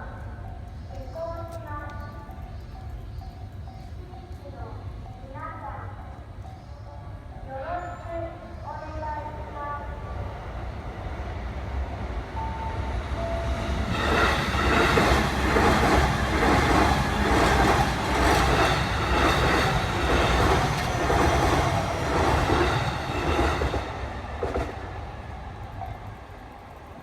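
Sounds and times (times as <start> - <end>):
electric train passing: 0.0 - 27.0.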